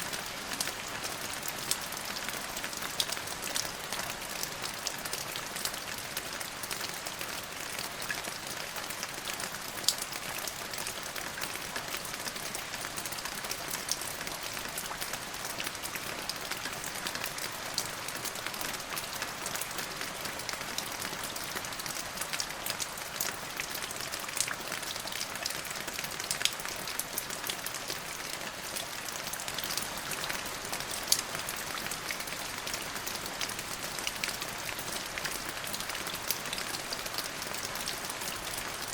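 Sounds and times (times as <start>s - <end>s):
raindrops ticking on surface: 0.0s - 38.9s.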